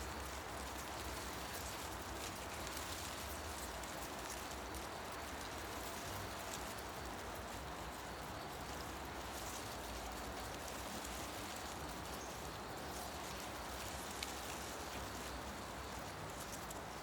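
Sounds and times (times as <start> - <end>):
leaves rustling in the wind: 0.0 - 17.0.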